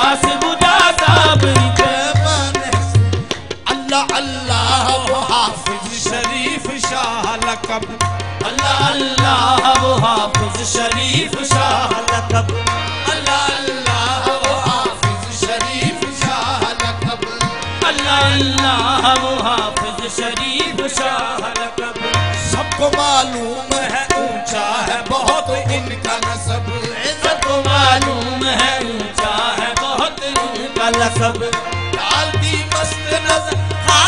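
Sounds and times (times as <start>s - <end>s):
tabla beat: 0.0s - 34.0s.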